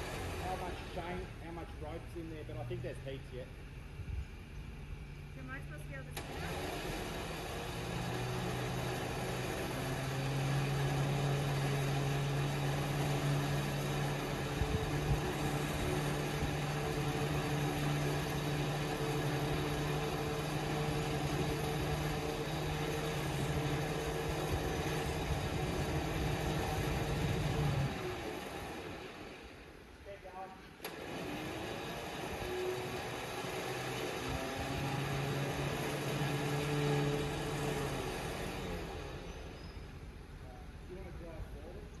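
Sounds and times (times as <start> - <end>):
motor humming steadily: 0.0 - 42.0.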